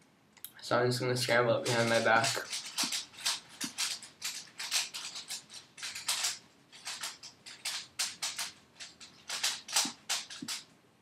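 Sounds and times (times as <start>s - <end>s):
puzzle cube layers clicking: 1.6s - 10.7s.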